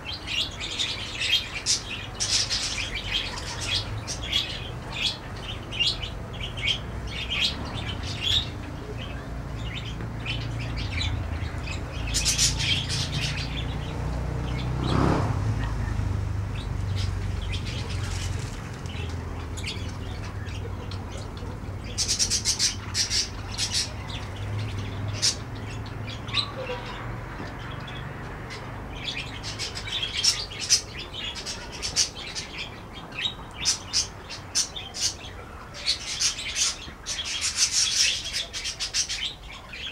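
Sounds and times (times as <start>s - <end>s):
budgerigars chirping: 0.1s - 14.7s, 15.6s - 27.0s, 27.6s - 39.9s.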